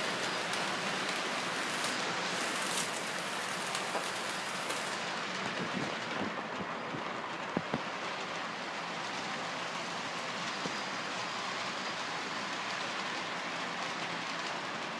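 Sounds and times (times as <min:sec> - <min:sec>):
model train rushing hiss: 0:00.0 - 0:05.6, 0:07.8 - 0:14.9
wheels clicking over track: 0:00.0 - 0:14.9.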